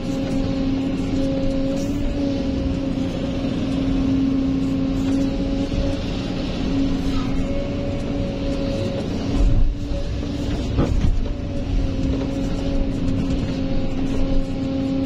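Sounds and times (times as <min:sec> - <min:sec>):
excavator engine and hydraulic whine: 0:00.0 - 0:15.0.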